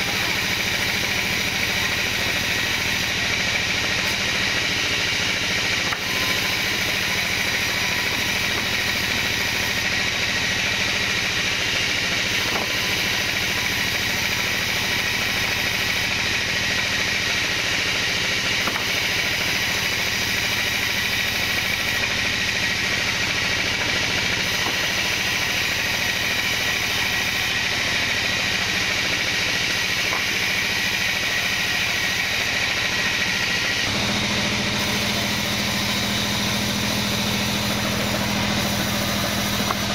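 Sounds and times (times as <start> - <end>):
band saw blade cutting log: 0.0 - 39.9
machine hum: 0.0 - 39.9.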